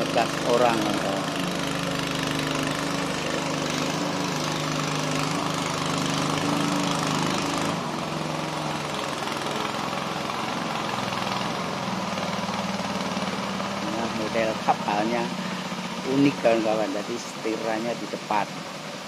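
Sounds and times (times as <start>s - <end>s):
small boat engine running: 0.0s - 19.0s.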